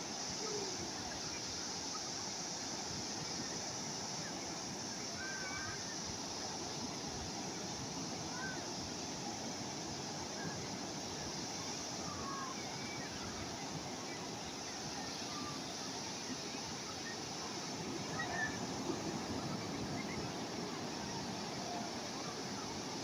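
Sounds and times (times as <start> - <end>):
sea waves breaking on shore: 0.0 - 23.0.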